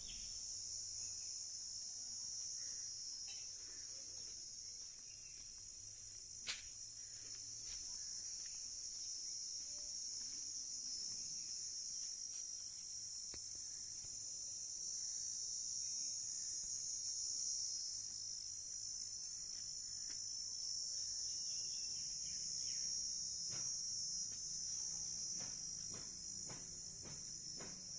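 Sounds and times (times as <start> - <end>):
crickets chirring: 0.0 - 27.9.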